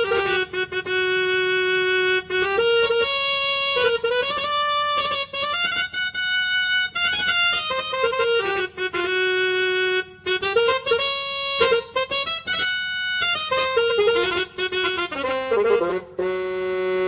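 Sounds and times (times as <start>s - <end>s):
electronic keyboard melody: 0.0s - 17.0s.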